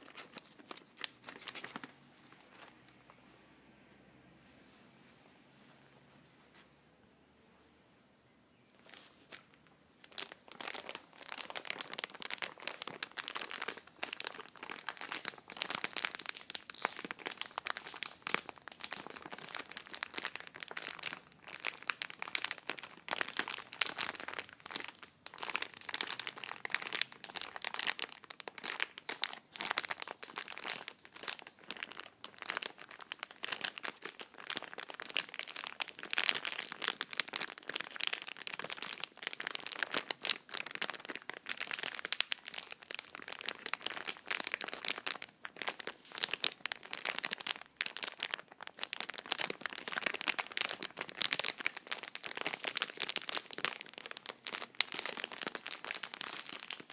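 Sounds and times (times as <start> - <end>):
packaging crinkling by hand: 0.0 - 3.0, 8.8 - 56.9.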